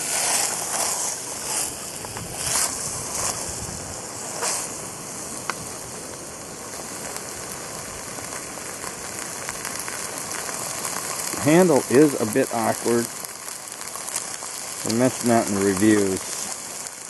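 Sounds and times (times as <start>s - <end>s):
food sizzling in a pan: 0.0s - 17.0s
gas stove burner hissing: 0.0s - 17.0s.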